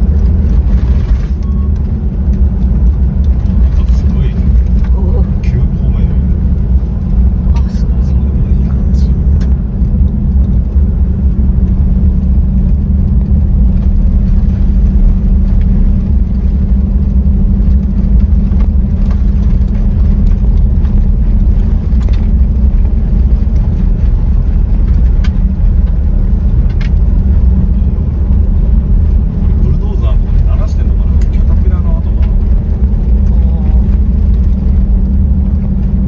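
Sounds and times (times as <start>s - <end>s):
diesel engine driving: 0.0s - 36.0s.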